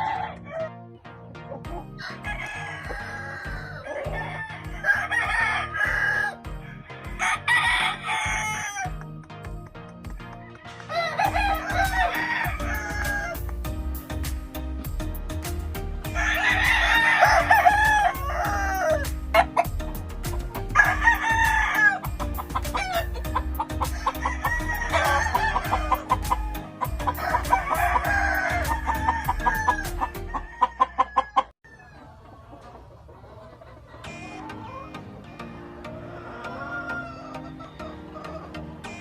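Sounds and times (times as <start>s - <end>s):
roosters crowing: 0.0s - 0.8s, 1.7s - 9.1s, 10.4s - 13.6s, 16.0s - 39.0s
chickens clucking: 0.0s - 14.3s, 15.4s - 39.0s.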